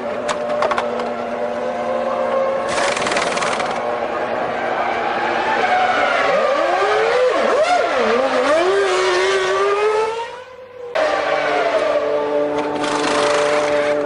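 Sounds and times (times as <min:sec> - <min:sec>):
racing car engine revving: 0:02.0 - 0:14.0.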